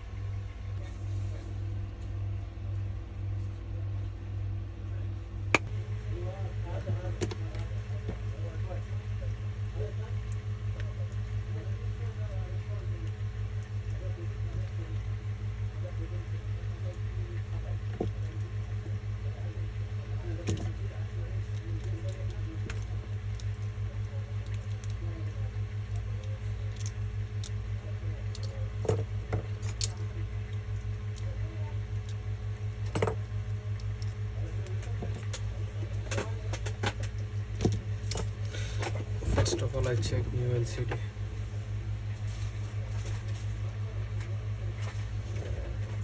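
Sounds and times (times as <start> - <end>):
electrical hum with pulsing buzz: 0.0 - 46.0.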